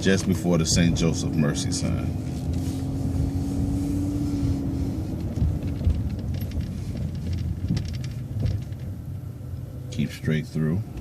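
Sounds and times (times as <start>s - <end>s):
bus low rumble: 0.0s - 11.0s.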